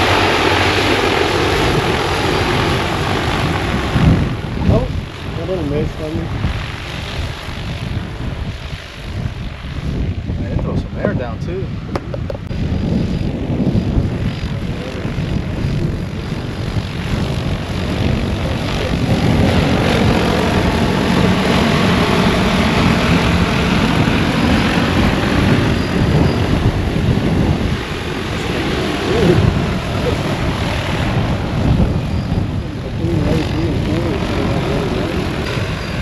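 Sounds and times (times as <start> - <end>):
drone rotors whirring: 0.0 - 36.0.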